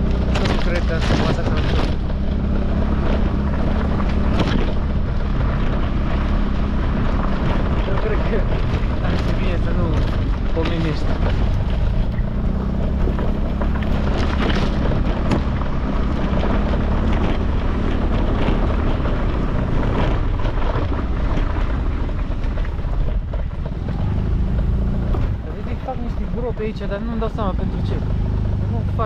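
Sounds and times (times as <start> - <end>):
motor scooter engine running: 0.0 - 29.0
wind buffeting microphone: 0.0 - 29.0.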